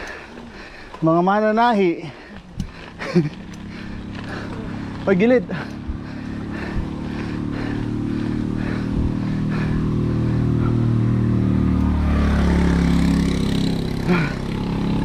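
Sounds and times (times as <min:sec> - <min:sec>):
vehicle engine approaching: 0:00.0 - 0:15.0.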